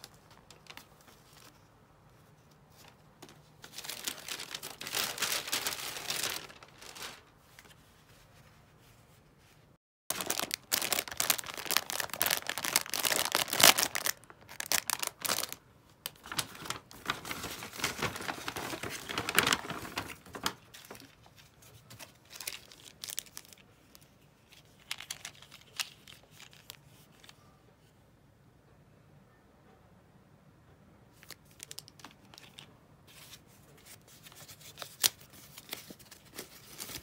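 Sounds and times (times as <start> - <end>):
crinkling and rustling: 0.0 - 27.6, 31.1 - 37.0.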